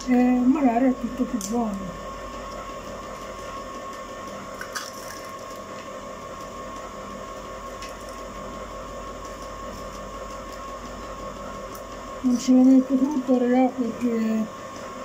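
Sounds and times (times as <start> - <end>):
ice cream maker motor hum: 0.0 - 15.0.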